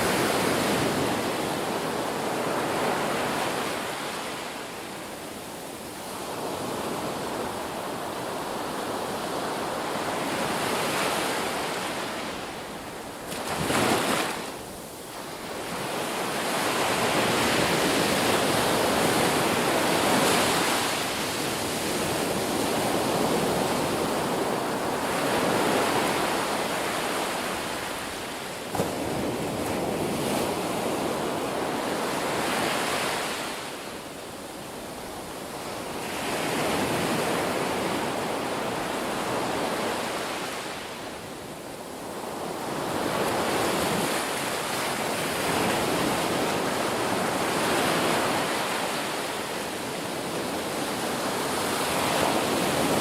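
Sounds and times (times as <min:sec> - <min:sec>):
ocean waves breaking on shore: 0:00.0 - 0:53.0.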